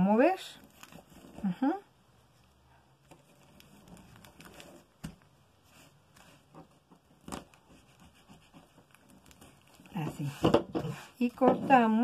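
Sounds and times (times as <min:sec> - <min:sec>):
paper and fabric rustling: 0:00.2 - 0:12.0.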